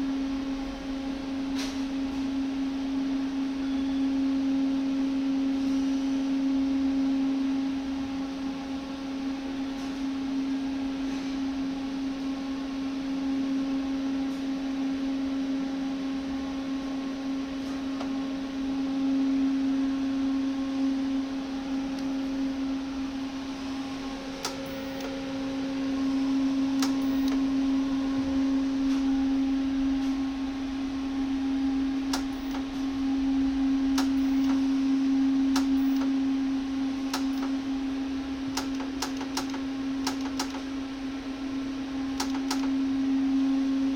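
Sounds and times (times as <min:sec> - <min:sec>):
welding machine electrical hum: 0:00.0 - 0:43.9.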